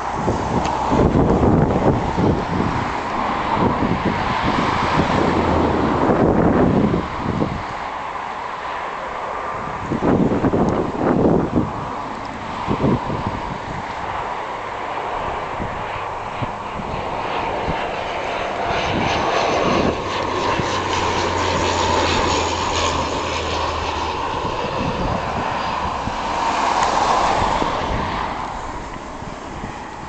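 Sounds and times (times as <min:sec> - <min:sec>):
aircraft engines running: 0:00.0 - 0:30.0.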